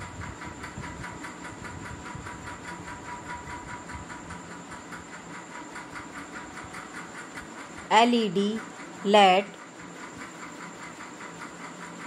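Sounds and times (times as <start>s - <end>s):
faint steady hum: 1.6s - 11.4s.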